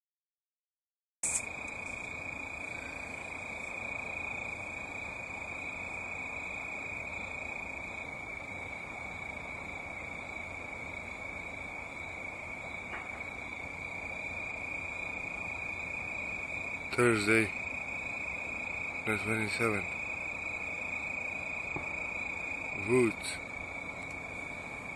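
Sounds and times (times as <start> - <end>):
crickets trilling: 1.2 - 24.9
faint hiss: 1.2 - 24.9.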